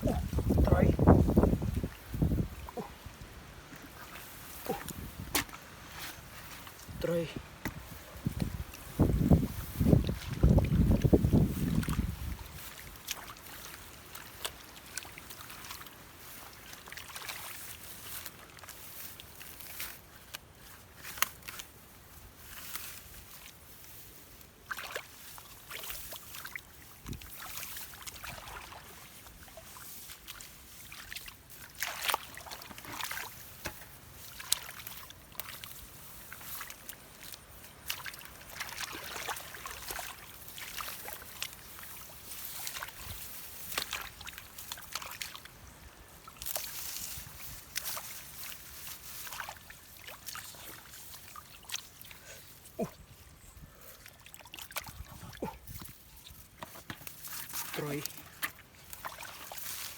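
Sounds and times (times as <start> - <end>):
muddy water sloshing and splashing: 0.0 - 59.9.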